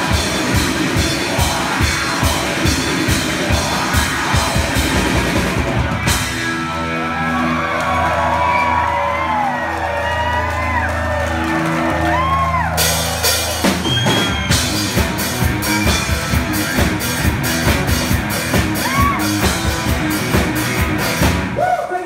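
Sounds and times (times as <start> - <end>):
drum kit: 0.0 - 8.9, 11.0 - 21.9
crowd whooping: 0.0 - 16.4, 18.5 - 20.0, 21.0 - 22.0.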